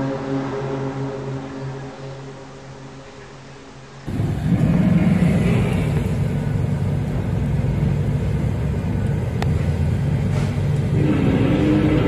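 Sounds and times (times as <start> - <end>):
low rumbling drone in sky: 0.0 - 12.0.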